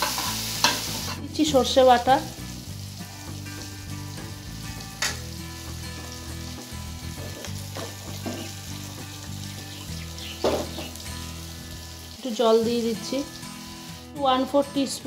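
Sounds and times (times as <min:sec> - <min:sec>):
masala sizzling in oil: 0:00.0 - 0:14.2.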